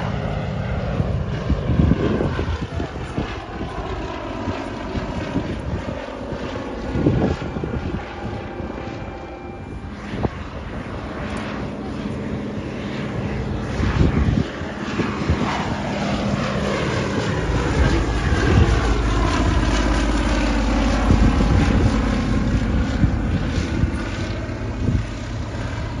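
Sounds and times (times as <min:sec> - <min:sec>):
propeller plane flying past: 0:00.0 - 0:26.0.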